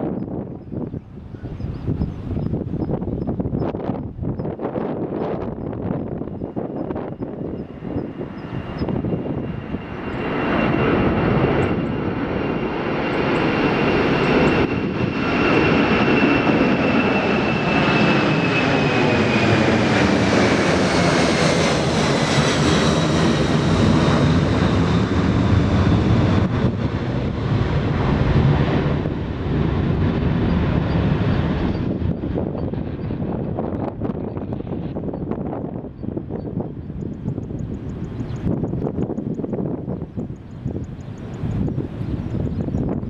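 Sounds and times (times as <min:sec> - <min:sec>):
jet airliner passing: 0:00.0 - 0:43.0.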